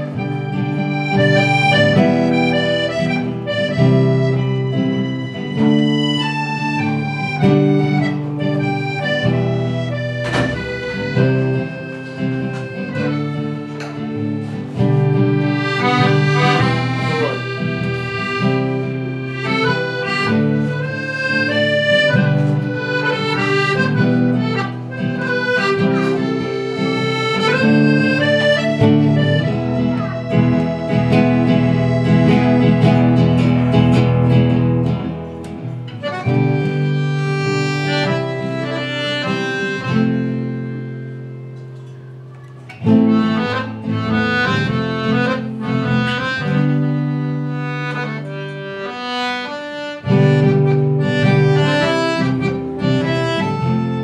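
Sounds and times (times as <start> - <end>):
accordion melody: 0.0 - 54.0
plucked acoustic guitar: 0.0 - 54.0.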